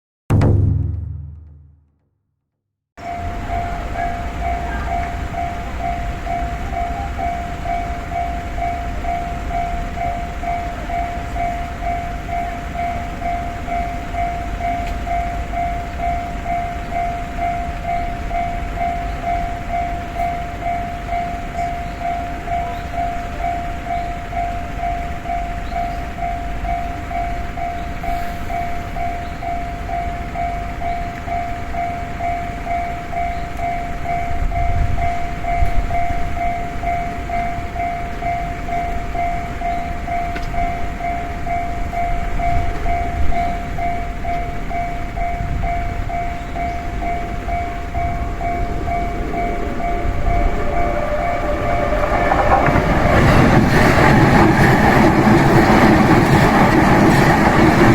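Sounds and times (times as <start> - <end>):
electric train rumble: 3.0 - 57.9
level-crossing warning bell: 3.0 - 57.9.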